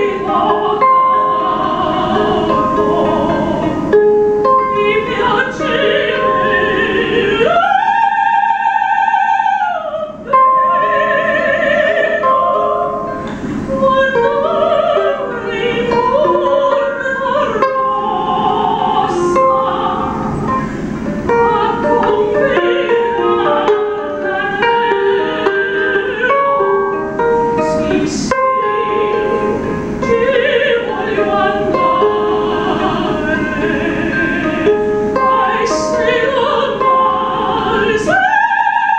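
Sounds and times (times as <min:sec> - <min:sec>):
ukulele strumming: 0:00.0 - 0:38.9
woman singing operatically: 0:00.0 - 0:38.9.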